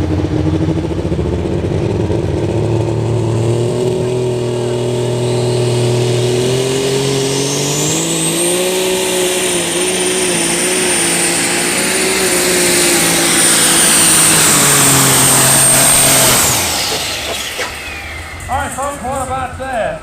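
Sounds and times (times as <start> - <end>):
tractor engine at high revs: 0.0 - 20.0
turbocharger whine: 0.0 - 20.0.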